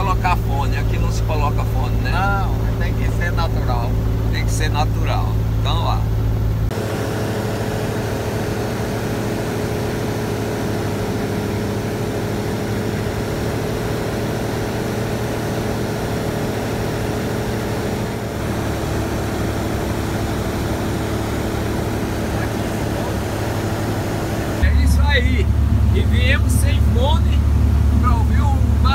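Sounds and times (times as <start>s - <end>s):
aircraft engine drone: 0.0s - 28.9s.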